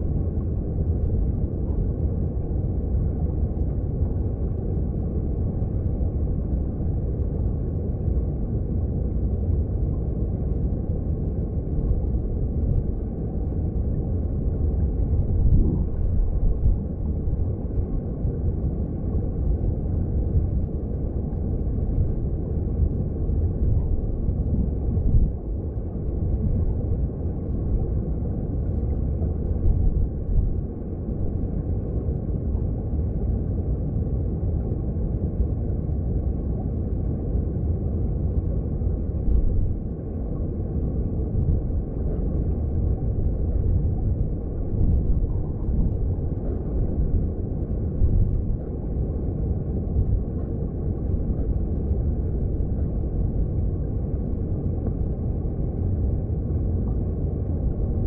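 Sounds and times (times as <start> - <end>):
underwater rumble of flowing water: 0.0 - 58.0.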